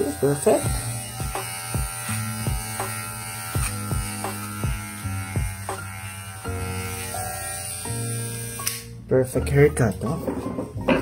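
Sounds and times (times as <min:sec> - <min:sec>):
electric hair clipper buzzing: 0:00.0 - 0:09.0.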